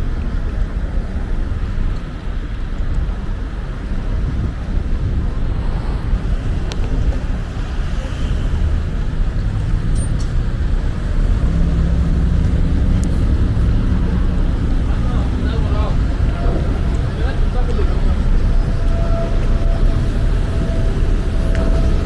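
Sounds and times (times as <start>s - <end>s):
low engine hum: 0.0s - 22.0s
road traffic rumble: 0.0s - 22.0s.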